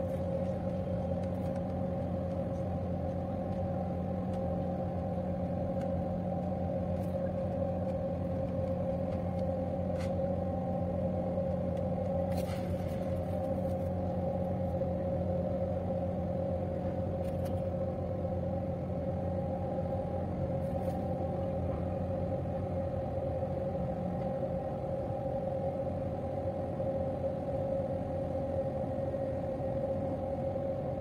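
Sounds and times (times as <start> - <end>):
boat diesel engine droning: 0.0 - 31.0.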